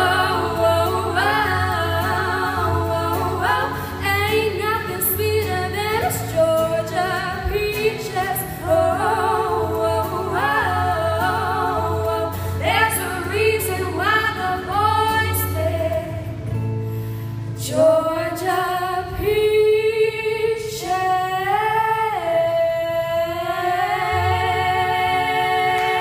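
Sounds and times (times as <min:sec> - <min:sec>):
two women singing: 0:00.0 - 0:16.5, 0:17.6 - 0:26.0
strummed acoustic guitar: 0:00.0 - 0:19.4, 0:20.8 - 0:26.0.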